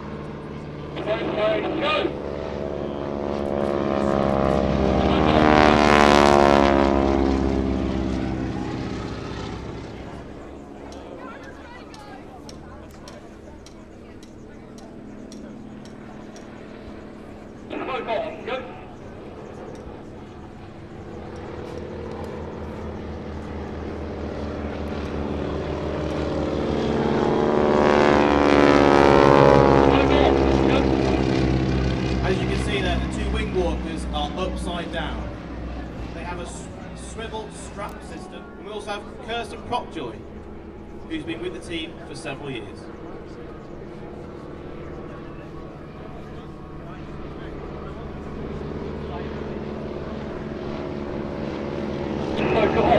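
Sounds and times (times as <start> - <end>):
biplane engine and propeller: 0.0 - 52.9.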